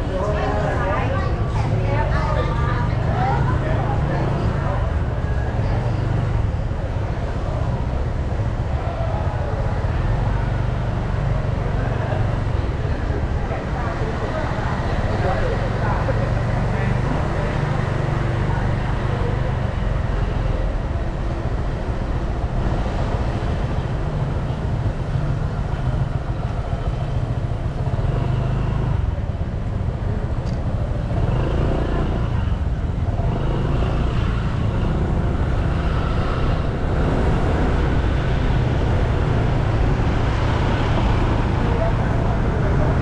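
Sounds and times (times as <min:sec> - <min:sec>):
cars and motorcycles passing: 0:00.0 - 0:43.0
faint voices: 0:00.0 - 0:43.0.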